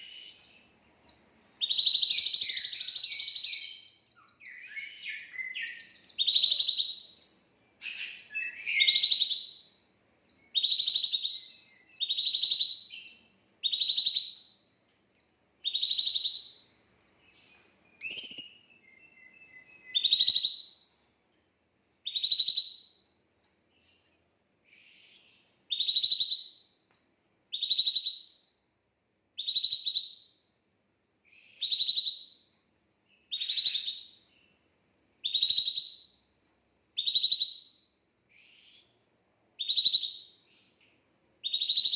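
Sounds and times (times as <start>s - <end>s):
bird trill: 0.0s - 20.9s, 22.0s - 28.5s, 29.4s - 30.4s, 31.3s - 39.0s, 39.6s - 40.8s, 41.4s - 41.9s
songbird chirping call: 0.0s - 28.7s, 29.4s - 30.6s, 31.2s - 41.9s.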